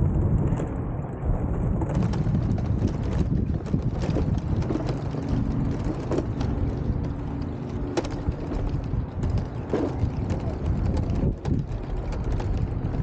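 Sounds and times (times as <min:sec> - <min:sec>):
wind buffeting microphone: 0:00.0 - 0:13.0
scattered clicks: 0:01.9 - 0:13.0.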